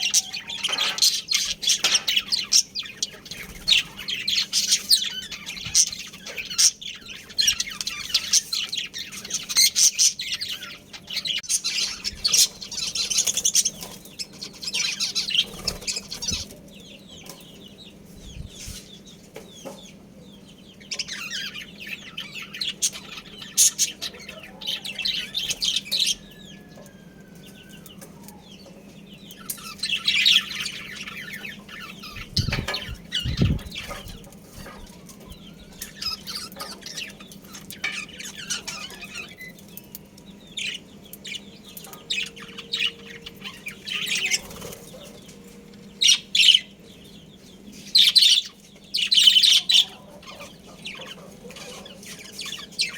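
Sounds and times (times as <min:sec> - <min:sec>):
budgerigars chirping: 0:00.0 - 0:52.9.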